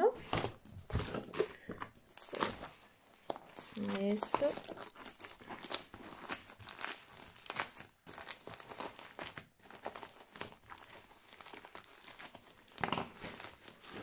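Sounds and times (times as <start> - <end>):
plastic mailer crinkling: 0.1 - 14.0.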